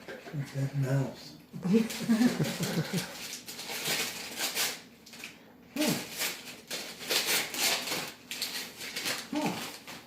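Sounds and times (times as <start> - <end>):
wrapping paper rustling and tearing: 1.6 - 10.0.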